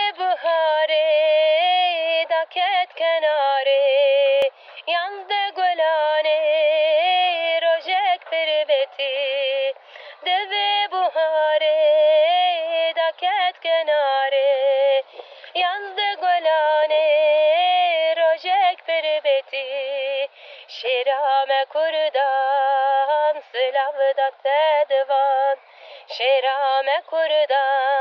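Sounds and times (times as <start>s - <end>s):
woman singing unaccompanied: 0.0s - 28.0s.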